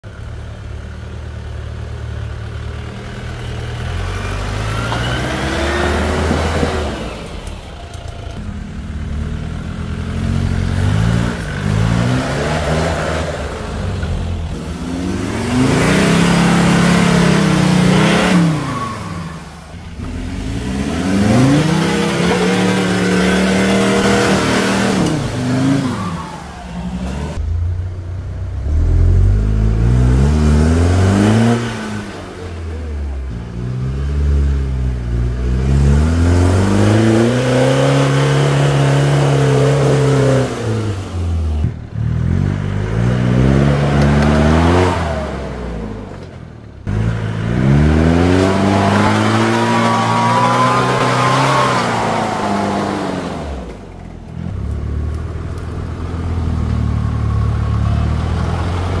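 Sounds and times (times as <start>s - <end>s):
off-road engines revving: 0.0s - 59.0s.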